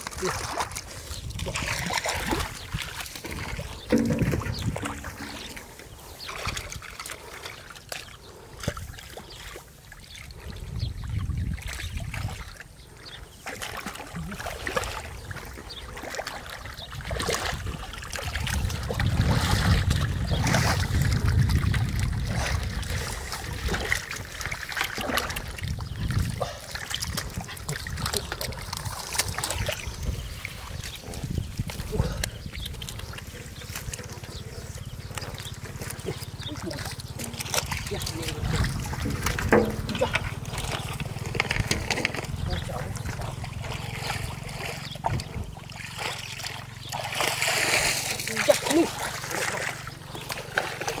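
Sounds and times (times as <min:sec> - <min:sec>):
water trickling and dripping: 0:00.0 - 0:34.3, 0:35.1 - 0:51.0
muddy water splashing: 0:00.0 - 0:51.0.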